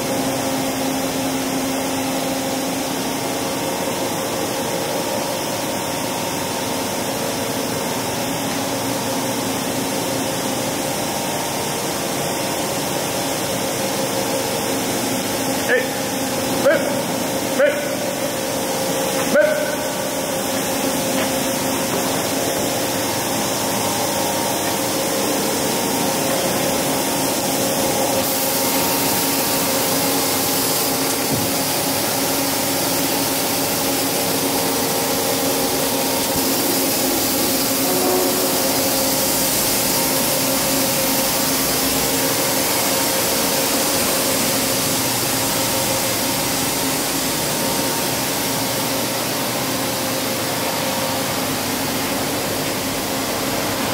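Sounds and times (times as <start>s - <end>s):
machine hum with hiss: 0.0s - 53.9s.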